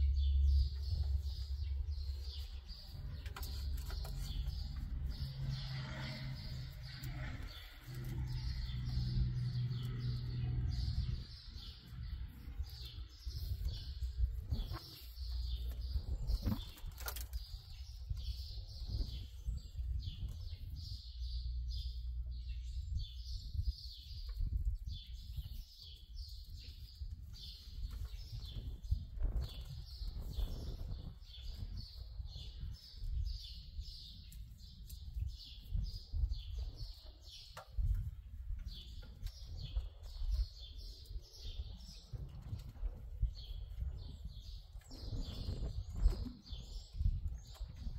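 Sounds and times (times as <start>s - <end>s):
small birds chirping: 0.0s - 47.9s
steady low rumble: 0.0s - 47.9s.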